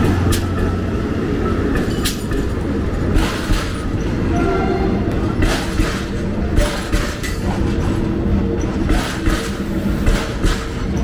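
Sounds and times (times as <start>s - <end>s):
train cars rumbling on track: 0.0s - 11.0s
wheels clacking over rail joints: 0.0s - 11.0s.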